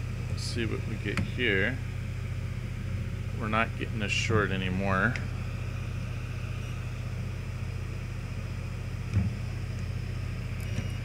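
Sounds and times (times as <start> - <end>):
bench fan humming: 0.0 - 11.0.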